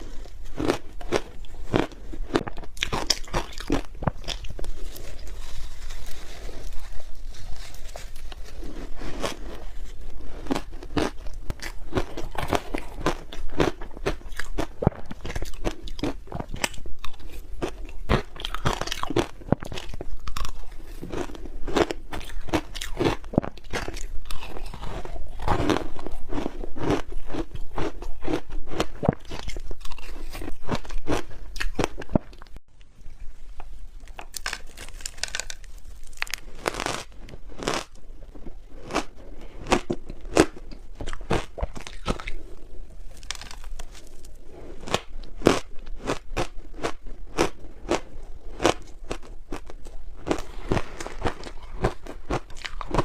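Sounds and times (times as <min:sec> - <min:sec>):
chewing hard ice: 0:00.0 - 0:05.6, 0:06.2 - 0:32.5, 0:38.8 - 0:53.0.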